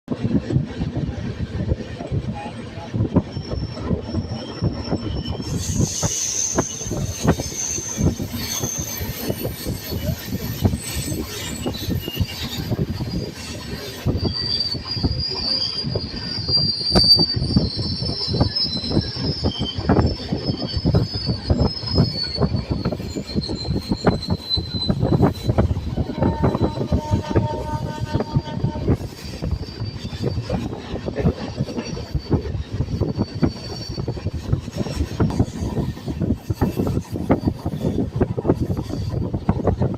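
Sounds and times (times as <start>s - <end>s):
train wheels clattering on rails: 0.1s - 39.9s
thin high wheel squeal: 2.5s - 39.9s.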